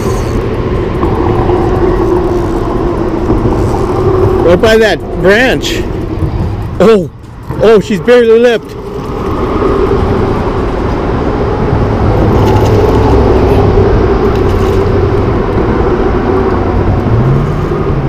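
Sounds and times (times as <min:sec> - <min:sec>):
constant hum: 0:00.0 - 0:18.0
low engine drone: 0:00.0 - 0:18.0.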